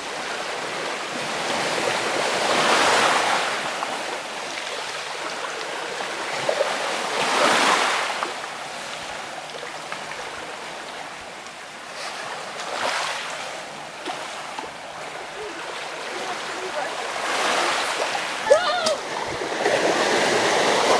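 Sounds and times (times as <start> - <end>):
waves breaking on shore: 0.0 - 20.9.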